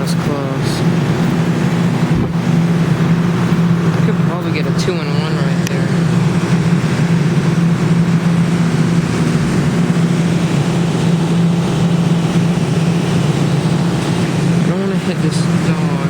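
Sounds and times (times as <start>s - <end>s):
claw machine humming: 0.0s - 16.0s
noisy hiss: 0.0s - 16.0s.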